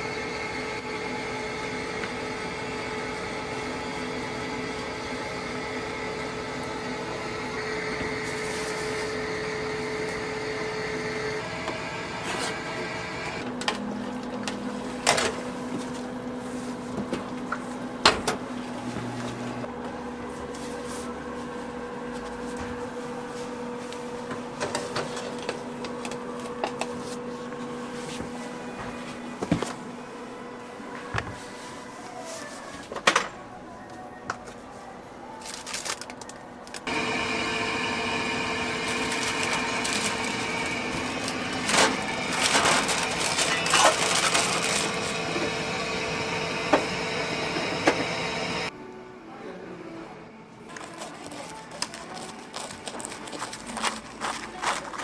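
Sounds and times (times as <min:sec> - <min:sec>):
kitchen appliances humming: 0:00.0 - 0:48.8, 0:50.4 - 0:55.0.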